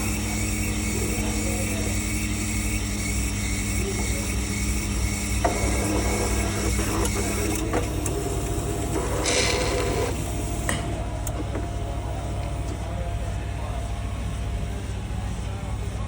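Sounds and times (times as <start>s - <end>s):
coffee machine humming: 0.0s - 16.0s.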